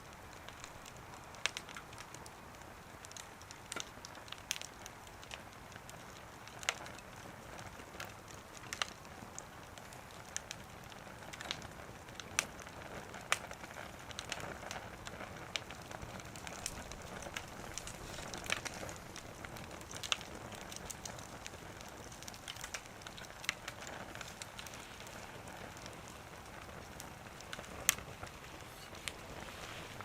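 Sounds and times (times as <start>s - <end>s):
firewood crackling and popping: 0.0s - 30.0s
steady fire hiss: 0.0s - 30.0s.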